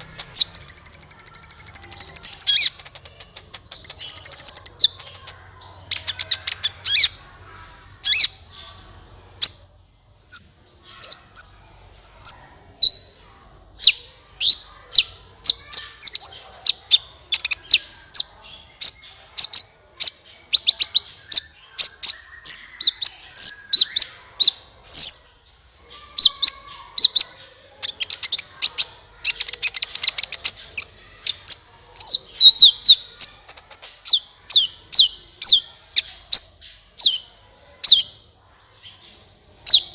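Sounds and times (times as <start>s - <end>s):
bird chirps and trills: 0.0s - 13.2s, 13.8s - 39.9s.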